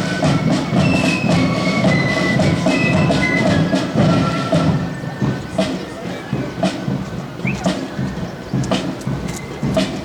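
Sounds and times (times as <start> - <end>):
high flute melody: 0.0 - 6.7, 7.4 - 10.0
drums beating: 0.0 - 10.0.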